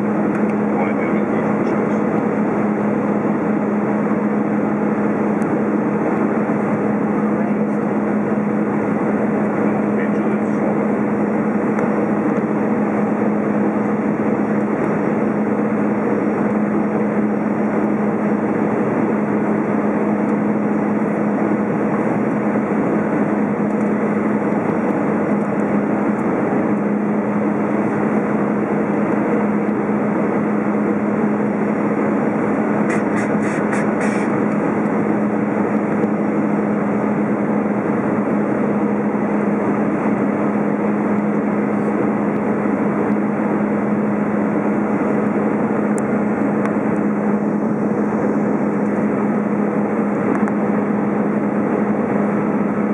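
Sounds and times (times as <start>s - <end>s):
airflow rush: 0.0s - 52.9s
jet engines running: 0.0s - 52.9s
low hum: 0.0s - 52.9s.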